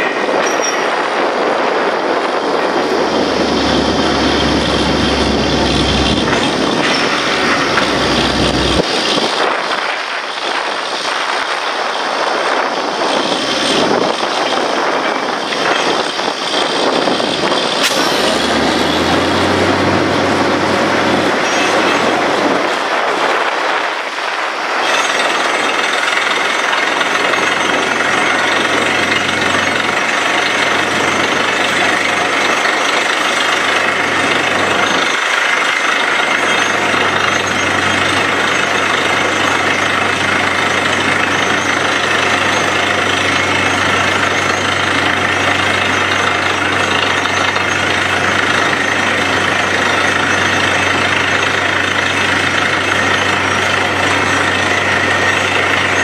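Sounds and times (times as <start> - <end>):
drilling rig engine drone: 0.0 - 56.0
machine noise: 0.0 - 56.0.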